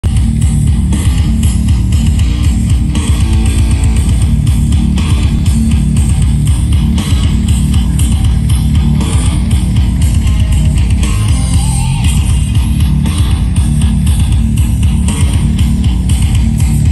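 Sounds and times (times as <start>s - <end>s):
loud music with bass and guitar: 0.0s - 16.9s.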